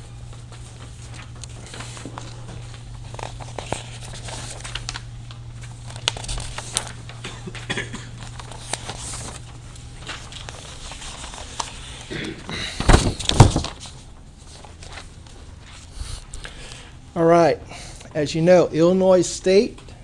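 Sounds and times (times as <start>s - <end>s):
paper rustling and crinkling: 0.0s - 16.8s
steady low hum: 0.0s - 20.0s.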